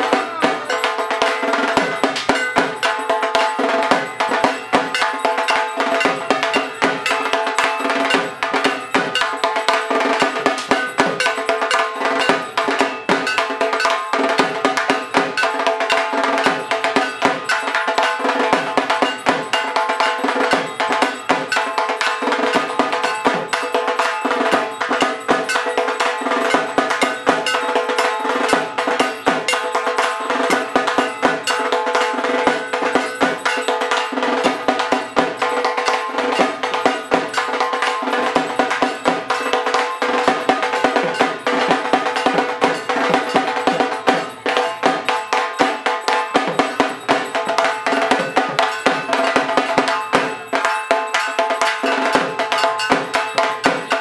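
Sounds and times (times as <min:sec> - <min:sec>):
barrel drums beaten rapidly: 0:00.0 - 0:54.0.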